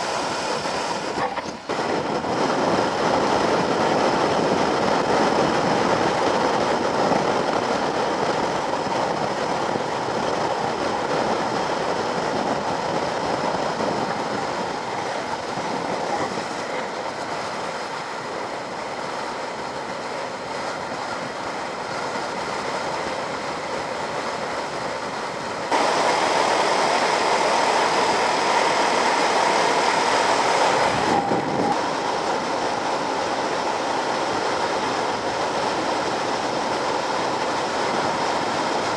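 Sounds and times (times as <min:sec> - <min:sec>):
wind rushing over camera: 0:00.0 - 0:38.9.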